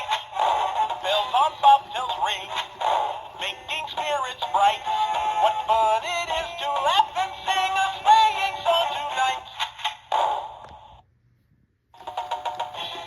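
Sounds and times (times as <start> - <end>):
tinny toy singing with music: 0.0 - 10.6, 12.0 - 13.0.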